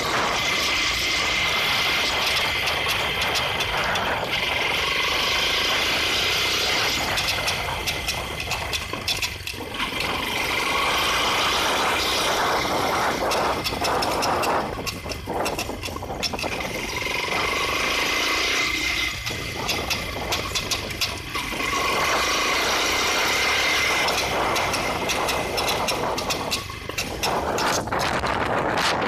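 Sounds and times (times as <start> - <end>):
motorcycle engine running: 0.0 - 29.0
loose drive chain knocking: 0.1 - 29.0.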